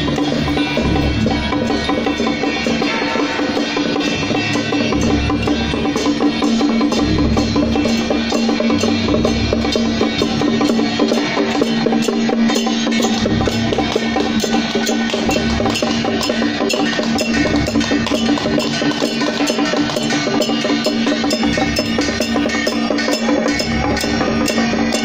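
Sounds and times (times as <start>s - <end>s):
fast clashing cymbal strikes: 0.0s - 25.0s
low drum beats: 0.0s - 25.0s.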